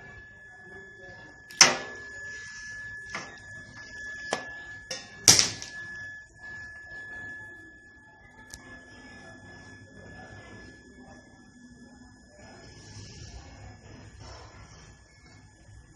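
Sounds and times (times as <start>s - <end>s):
faint steady high tone: 0.0s - 15.9s.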